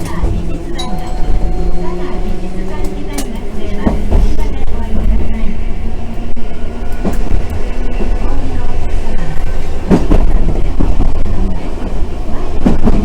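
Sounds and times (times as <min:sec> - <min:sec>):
streetcar rumbling: 0:00.0 - 0:13.0.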